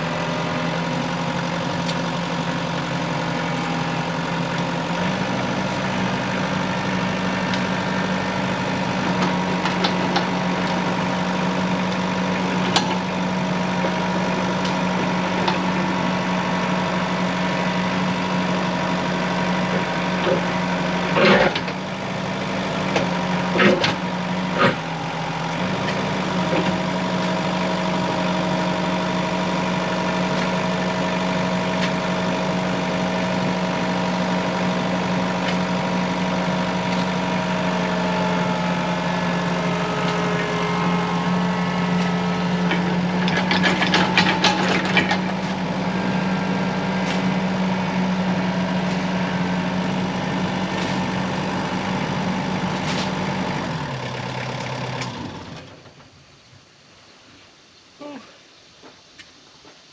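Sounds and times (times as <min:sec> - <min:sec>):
skid steer engine running: 0:00.0 - 0:56.2
hydraulic auger drilling into ground: 0:00.2 - 0:56.0.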